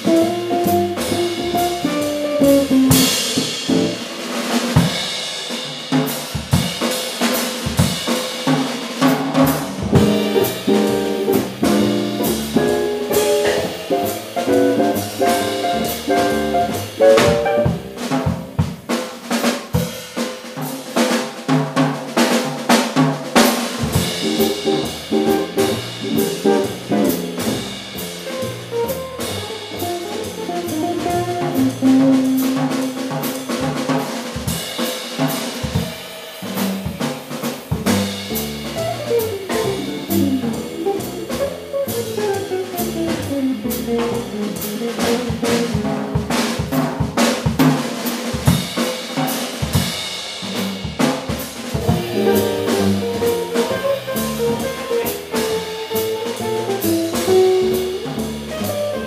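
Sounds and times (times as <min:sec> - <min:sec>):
drum kit: 0:00.0 - 0:59.0
jazz trio playing: 0:00.0 - 0:59.0.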